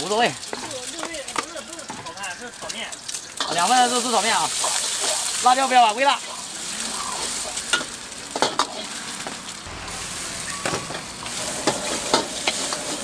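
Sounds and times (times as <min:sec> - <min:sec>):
food sizzling in wok: 0:00.0 - 0:13.0.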